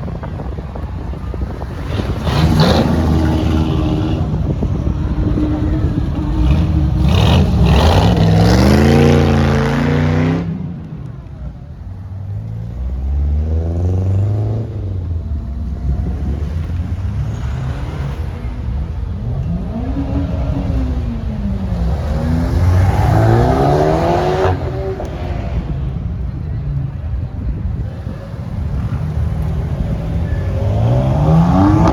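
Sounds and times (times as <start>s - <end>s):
car engines revving: 0.0s - 31.9s.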